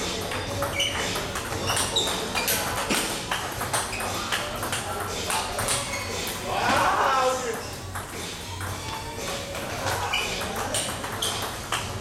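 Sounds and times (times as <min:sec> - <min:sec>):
table tennis balls clicking: 0:00.0 - 0:06.8, 0:07.5 - 0:12.0.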